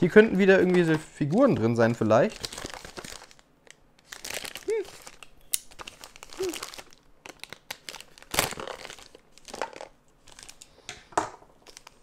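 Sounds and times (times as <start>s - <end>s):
paper wrapping crinkling: 0.5s - 10.8s, 11.6s - 12.0s.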